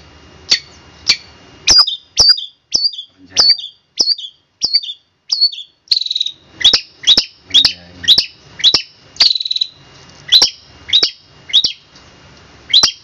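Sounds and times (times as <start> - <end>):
bird singing high sharp notes: 0.5 - 11.8, 12.7 - 13.0.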